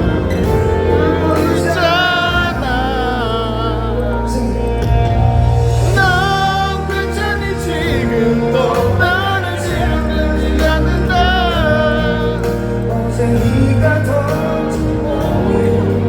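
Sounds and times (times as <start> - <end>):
pop ballad band accompaniment: 0.0 - 16.0.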